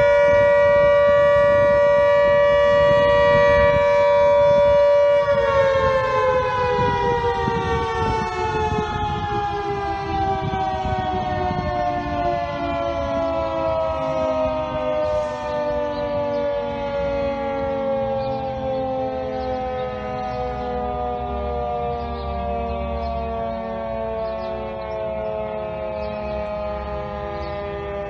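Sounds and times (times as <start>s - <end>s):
siren winding down: 0.0s - 28.0s.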